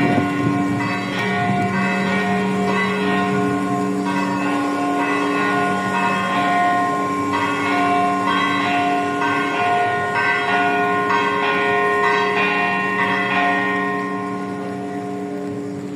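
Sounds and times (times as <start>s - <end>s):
small church bells struck: 0.0s - 15.8s
hum of large bells: 0.0s - 15.9s.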